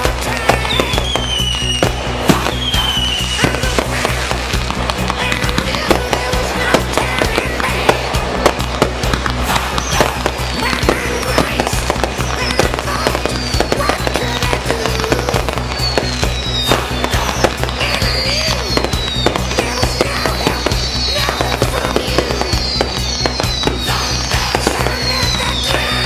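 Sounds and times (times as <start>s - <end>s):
falling firework whistles: 0.0s - 26.0s
fireworks bangs and crackles: 0.0s - 26.0s
music with low beat: 0.0s - 26.0s.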